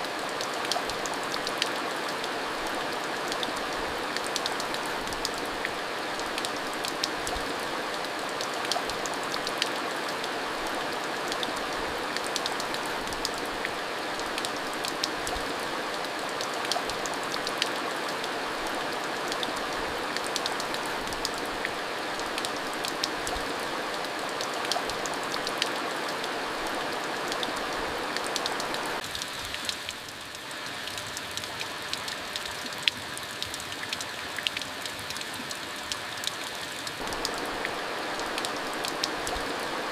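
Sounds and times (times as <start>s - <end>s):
heavy rain hiss: 0.0s - 31.0s, 37.0s - 39.9s
raindrops ticking on hard surfaces: 0.1s - 39.9s.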